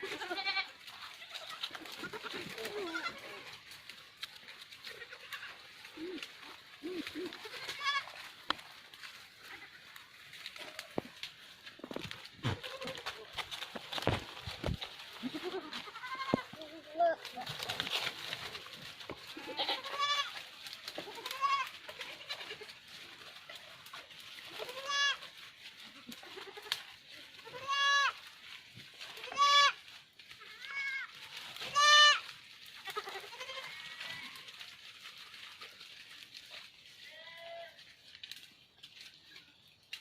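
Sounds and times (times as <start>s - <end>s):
goats bleating: 0.0s - 4.0s, 4.7s - 11.3s, 12.4s - 14.2s, 15.0s - 28.3s, 29.0s - 36.2s, 37.0s - 37.9s.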